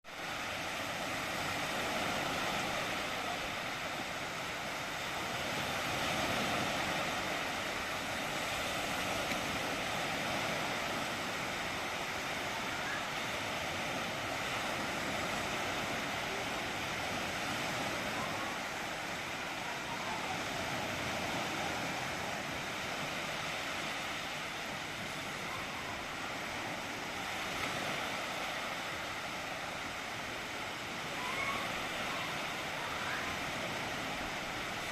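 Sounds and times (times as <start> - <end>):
waves washing onto sandy beach: 0.1 - 34.9.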